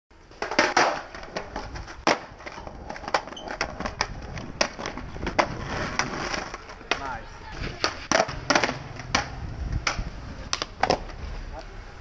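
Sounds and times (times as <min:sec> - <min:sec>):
skateboard wheels clacking on ground: 0:00.2 - 0:11.7
low rolling rumble: 0:01.1 - 0:12.0.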